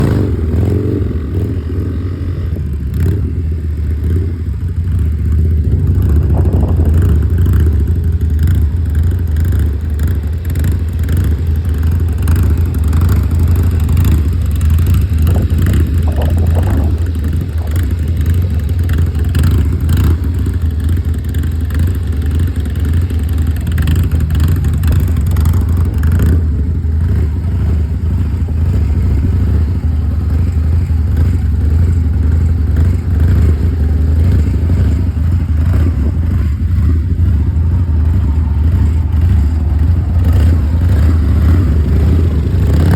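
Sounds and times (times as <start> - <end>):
motorcycle engine droning: 0.0 - 42.9.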